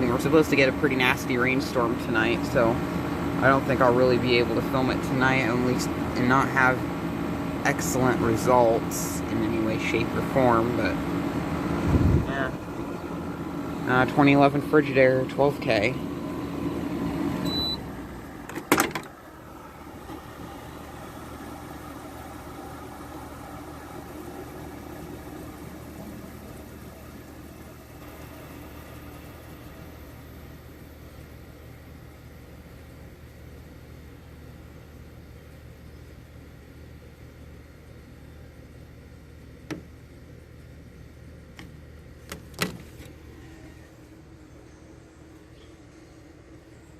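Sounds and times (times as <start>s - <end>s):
air conditioner fan rushing: 0.0s - 46.9s
compressor hum: 0.0s - 46.9s.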